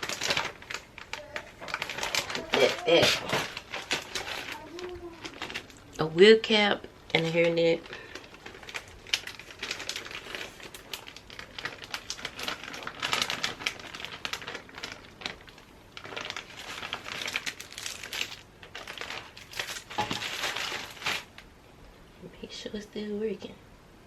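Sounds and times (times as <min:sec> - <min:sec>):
plastic packaging crinkling: 0:00.0 - 0:21.5.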